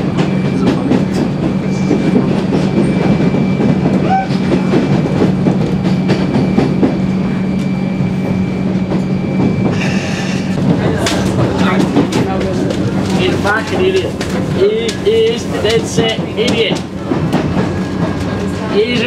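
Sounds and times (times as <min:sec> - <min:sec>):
train carriage hum and rumble: 0:00.0 - 0:19.0
wheels clicking on track: 0:00.0 - 0:19.0.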